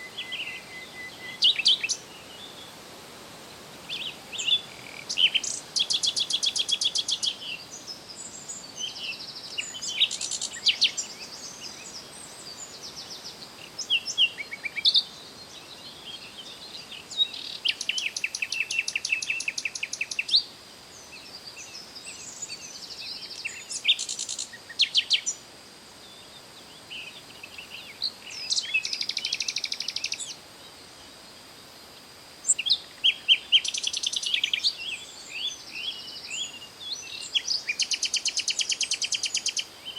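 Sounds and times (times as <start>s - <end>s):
bird chirps: 0.0s - 2.7s, 3.9s - 20.5s, 21.1s - 25.4s, 26.1s - 30.4s, 32.4s - 39.9s.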